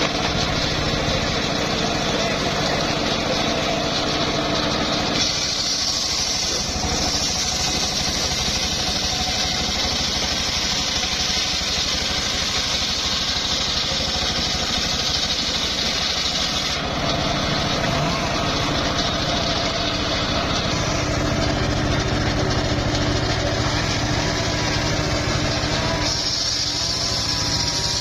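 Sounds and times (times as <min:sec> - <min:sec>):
saw blade cutting log: 0:00.0 - 0:28.0
sawmill engine running: 0:00.0 - 0:28.0.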